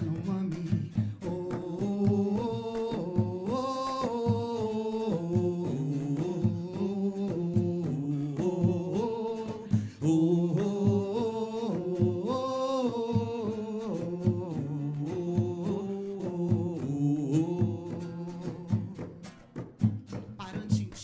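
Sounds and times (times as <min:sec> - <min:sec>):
man and woman singing: 0:00.0 - 0:19.5, 0:20.4 - 0:21.0
acoustic guitar strumming: 0:00.0 - 0:21.0.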